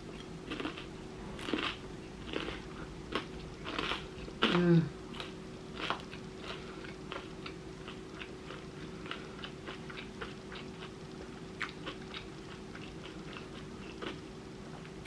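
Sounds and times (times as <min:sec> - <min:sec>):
faint steady hum: 0:00.0 - 0:15.0
chewing and crunching: 0:00.1 - 0:15.0.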